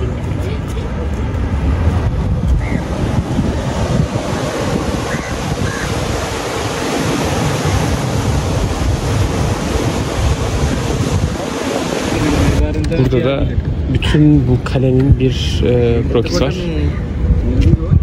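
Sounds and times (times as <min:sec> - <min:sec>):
sea surf washing: 0:00.0 - 0:18.0
wind buffeting microphone: 0:00.0 - 0:18.0.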